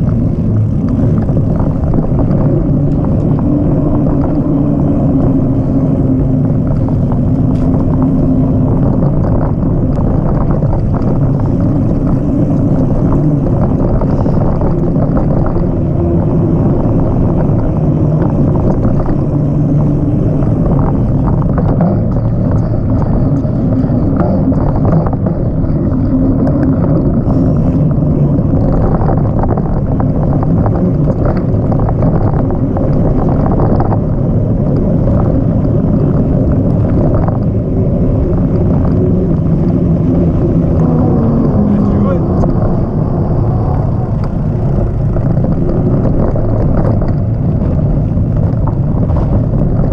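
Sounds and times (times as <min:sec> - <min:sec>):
tyres rolling over rough dirt: 0:00.0 - 0:49.9
wind buffeting microphone: 0:00.0 - 0:49.9.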